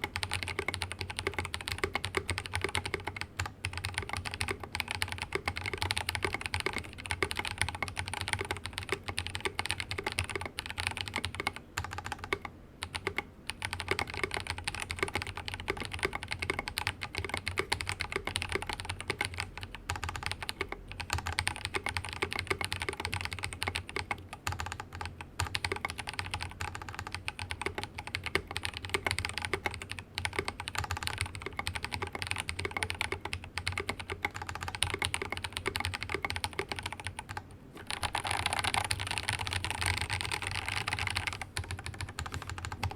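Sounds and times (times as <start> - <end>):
fast typing on mechanical keyboard: 0.0 - 42.9.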